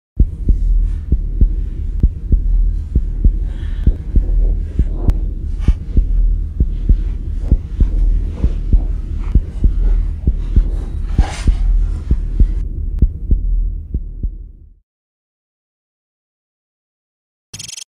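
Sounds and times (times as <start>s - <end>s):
deep steady drone: 0.2s - 14.8s
heartbeat low thumps: 0.2s - 14.8s.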